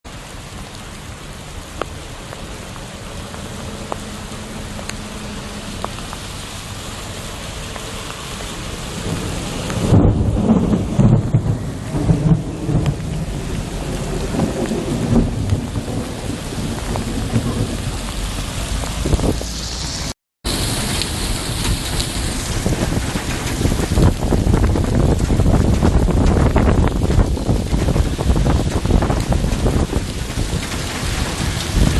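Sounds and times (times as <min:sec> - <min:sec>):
rain hiss: 0:00.1 - 0:31.9
thunderclap and rumble: 0:00.3 - 0:31.9.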